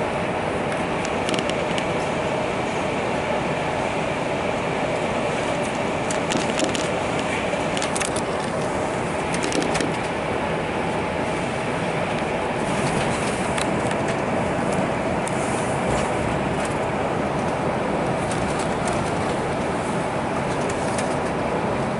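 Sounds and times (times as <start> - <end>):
vehicle running noise inside cabin: 0.0 - 21.9.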